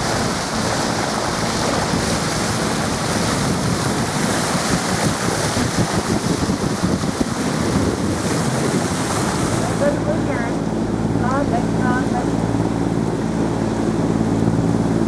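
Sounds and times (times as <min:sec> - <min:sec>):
water rushing past boat hull: 0:00.0 - 0:15.0
wind buffeting microphone: 0:00.0 - 0:15.0.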